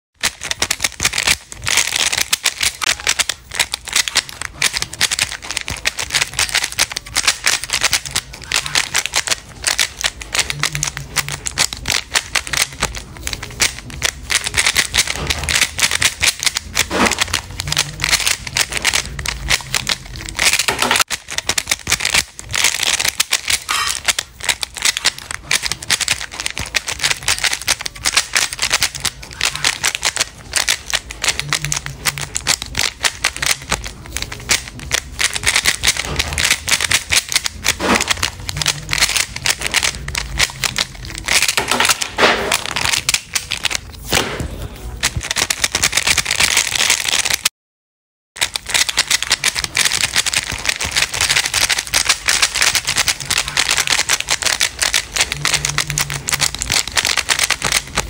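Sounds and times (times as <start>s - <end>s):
puzzle cube clicking and rattling: 0.2s - 47.5s, 48.4s - 58.0s.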